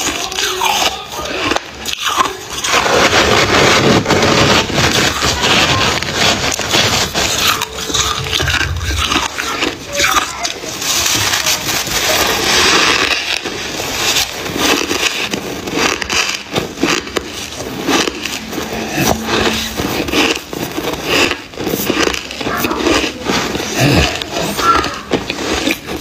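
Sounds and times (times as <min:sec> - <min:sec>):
frost crunching being chewed: 0:00.0 - 0:26.0
metal spoon scraping frost: 0:00.0 - 0:26.0.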